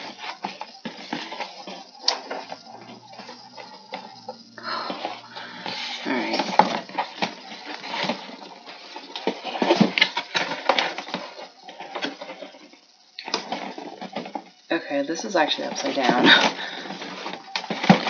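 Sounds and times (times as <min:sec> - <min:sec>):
cardboard scraping and rustling: 0:00.0 - 0:14.5, 0:16.0 - 0:18.0.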